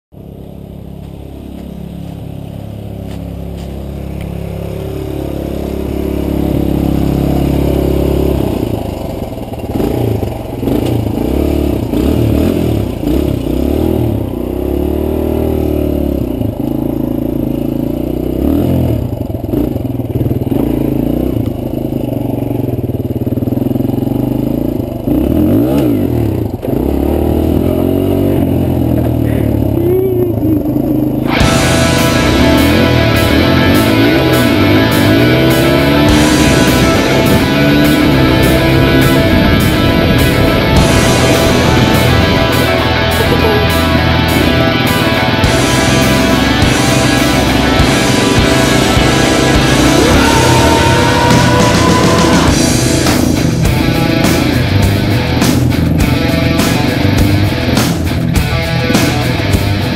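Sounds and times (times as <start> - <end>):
dirt bike engine revving: 0.1 - 59.9.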